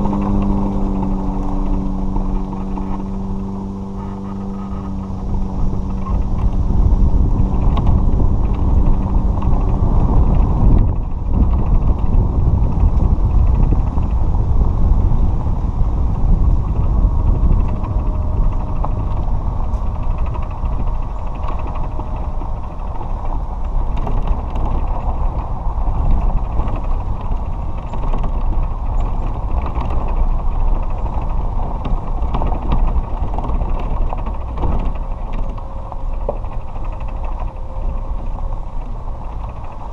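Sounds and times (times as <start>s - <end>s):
cart tyres rumbling on gravel: 0.0s - 39.9s
motor hum: 0.0s - 39.9s.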